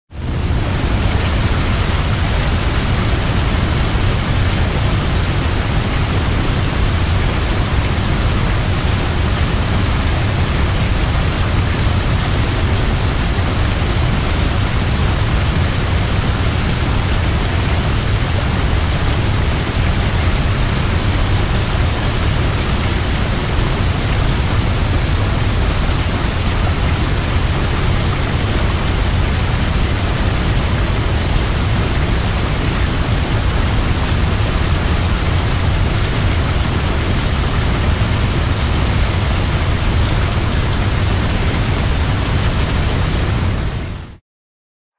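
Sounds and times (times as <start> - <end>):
waterfall rushing: 0.2 - 44.2.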